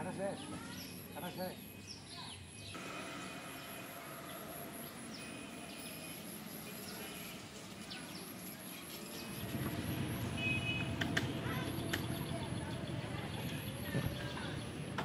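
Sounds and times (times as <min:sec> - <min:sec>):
birds chirping: 0:00.0 - 0:15.0
low outdoor hum: 0:00.5 - 0:15.0.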